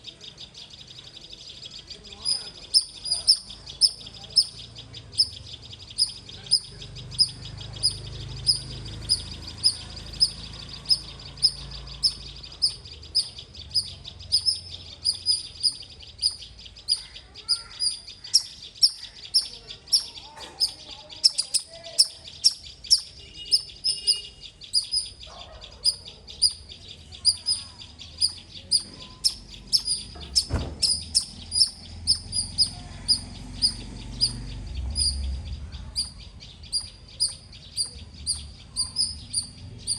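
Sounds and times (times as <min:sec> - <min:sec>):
squirrel chirping: 0:00.0 - 0:39.9.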